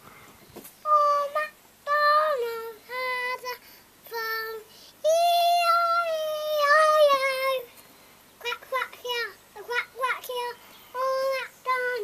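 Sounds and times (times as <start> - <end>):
girl singing: 0.8 - 7.8, 8.4 - 12.0.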